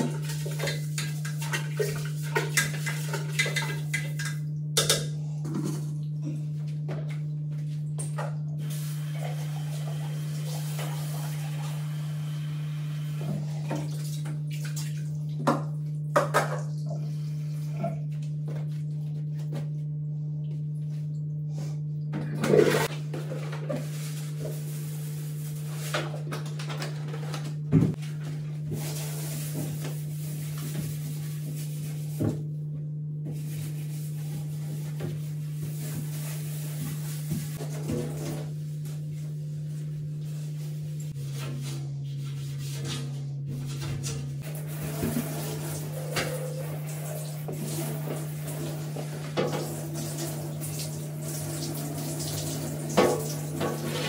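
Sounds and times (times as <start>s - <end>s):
low hum: 0.0s - 47.2s.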